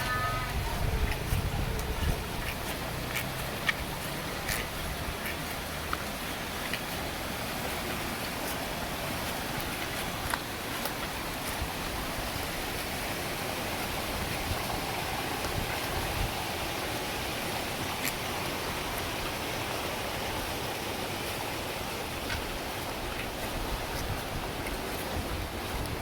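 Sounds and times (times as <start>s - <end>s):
heavy rain hissing: 0.0s - 26.0s
raindrops ticking close by: 0.0s - 26.0s.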